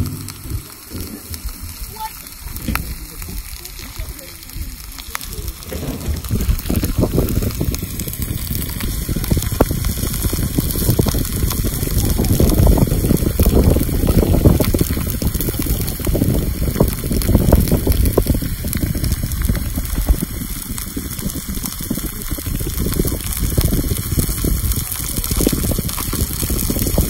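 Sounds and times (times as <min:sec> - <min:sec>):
crackles and pops: 0:00.0 - 0:27.0
meat juices bubbling on hot stone: 0:00.0 - 0:27.0.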